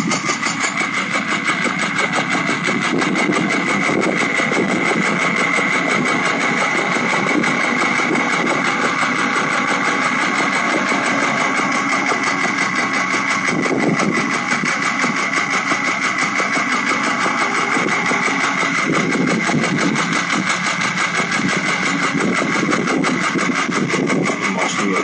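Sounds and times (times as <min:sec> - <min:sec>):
engine ticking knock: 0:00.0 - 0:25.0
engine whine: 0:00.0 - 0:25.0.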